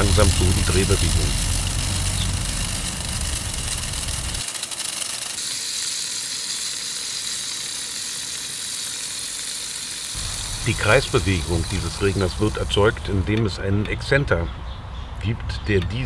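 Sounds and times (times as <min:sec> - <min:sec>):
lawn sprinkler hissing and spattering: 0:00.0 - 0:13.3.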